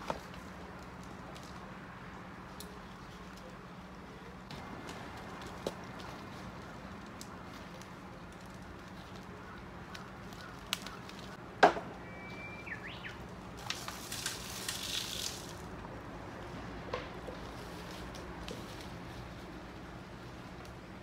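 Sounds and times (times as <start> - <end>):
rustling soil and leaves: 0.0 - 21.0.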